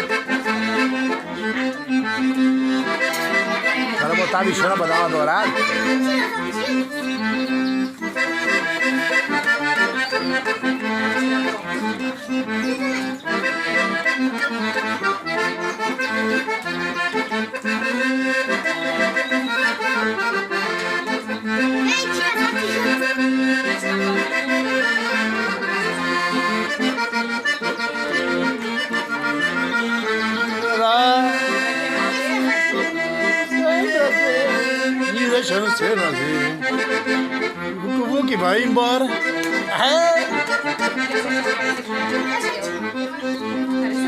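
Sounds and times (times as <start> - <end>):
accordion dance music: 0.0 - 44.0.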